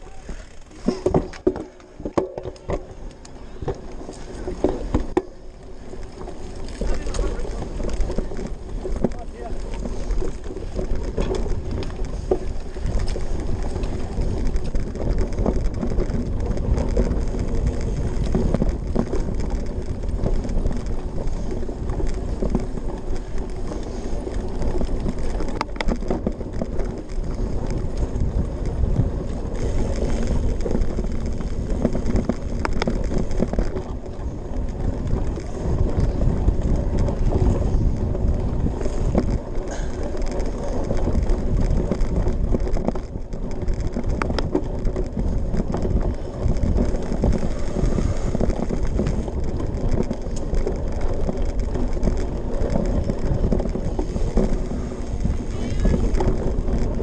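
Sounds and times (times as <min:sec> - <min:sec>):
bike frame rattling: 0:00.0 - 0:57.0
bike tyres rumbling over dirt: 0:00.0 - 0:57.0.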